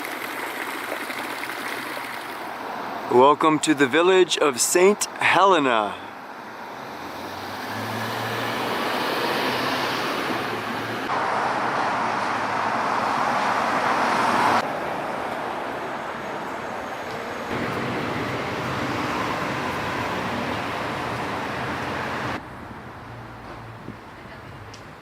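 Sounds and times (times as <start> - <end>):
cars passing on a street: 2.0 - 25.0.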